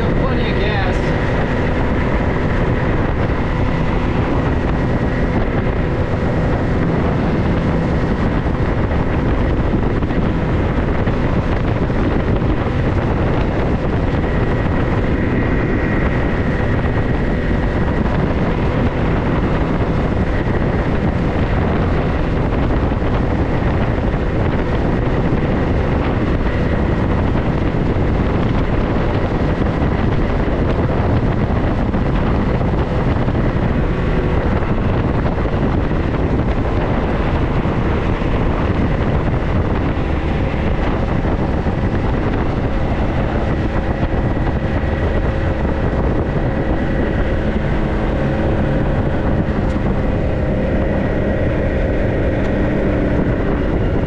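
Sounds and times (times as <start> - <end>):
vehicle engine and drive noise: 0.0 - 54.0
wind hitting microphone: 0.0 - 54.0.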